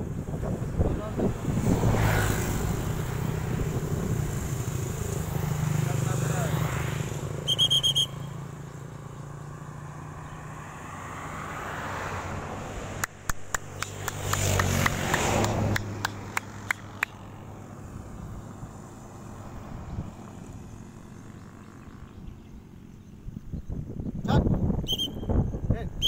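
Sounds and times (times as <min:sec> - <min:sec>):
vehicle passing on road: 0:00.0 - 0:24.0.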